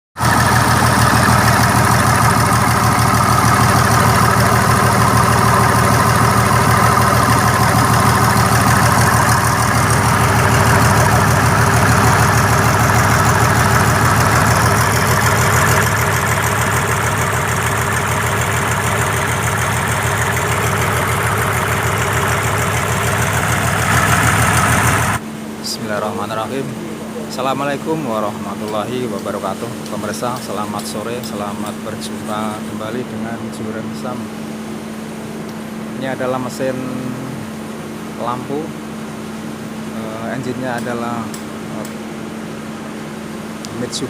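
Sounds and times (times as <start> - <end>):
diesel generator running: 0.2 - 44.0.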